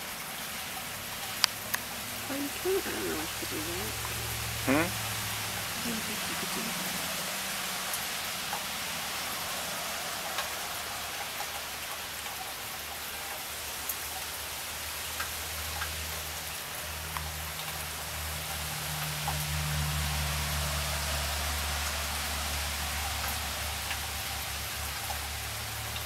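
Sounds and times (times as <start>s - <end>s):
raindrops ticking: 0.0s - 26.0s
steady rain hissing: 0.0s - 26.0s.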